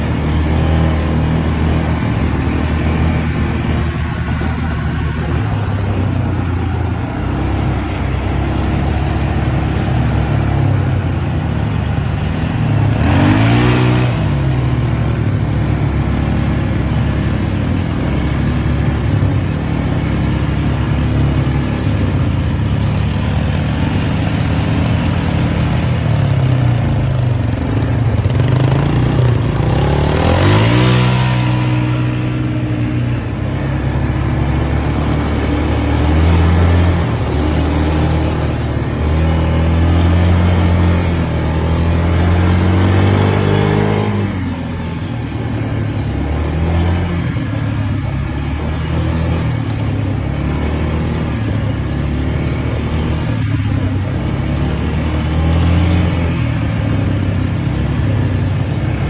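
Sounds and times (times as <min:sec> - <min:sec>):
atv engine running: 0:00.0 - 0:59.0
rush of noise: 0:00.0 - 0:59.0.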